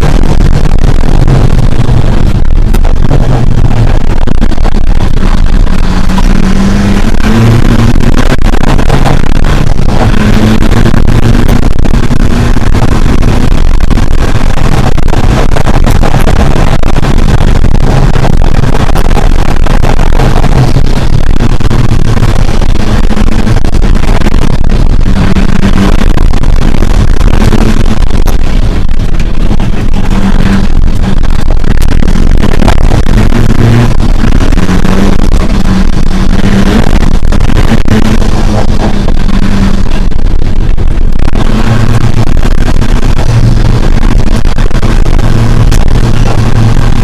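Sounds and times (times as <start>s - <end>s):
rally car engine revving: 0.0s - 47.0s
road and cabin noise: 0.0s - 47.0s.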